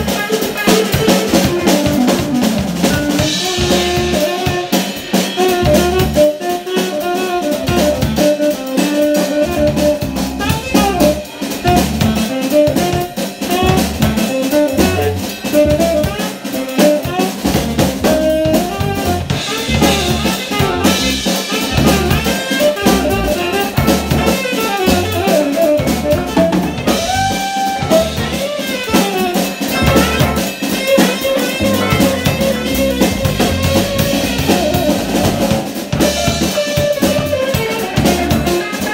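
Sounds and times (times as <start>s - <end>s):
jazz band playing: 0.0s - 38.9s
tenor saxophone melody: 0.0s - 38.9s.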